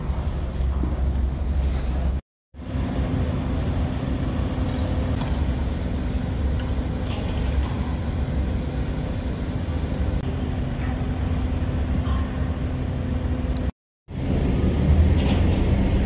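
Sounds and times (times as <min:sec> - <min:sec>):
constant hum: 0:00.0 - 0:16.0
construction machinery engine drone: 0:00.0 - 0:16.0.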